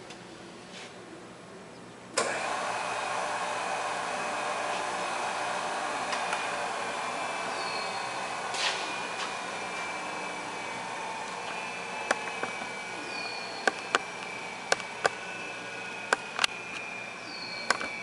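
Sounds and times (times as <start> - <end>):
grinder high whine: 2.2 - 18.0.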